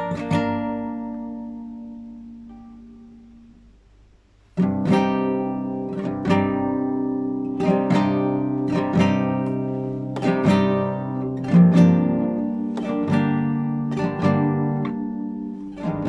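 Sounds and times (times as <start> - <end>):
classical guitar strummed chords: 0.0 - 16.0.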